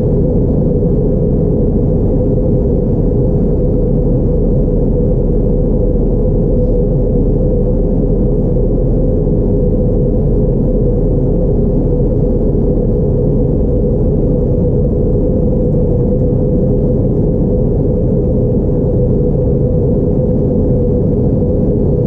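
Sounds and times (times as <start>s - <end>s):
airplane cabin low rumble: 0.0s - 22.0s
steady hum tone: 0.0s - 22.0s.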